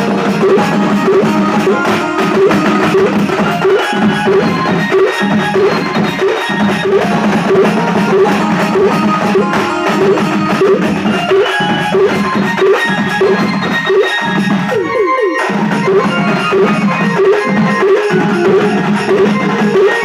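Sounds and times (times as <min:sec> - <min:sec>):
folk dance music: 0:00.0 - 0:20.0.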